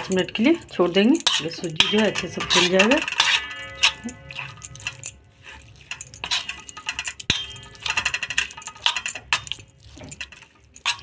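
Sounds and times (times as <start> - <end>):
spoon clinking in metal bowl: 0.0 - 11.0.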